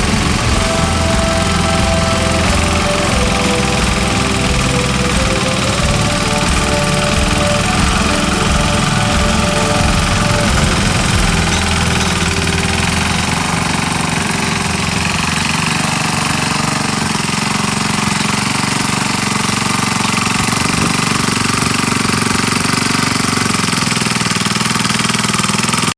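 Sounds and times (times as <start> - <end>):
small engine chugging: 0.0 - 25.9.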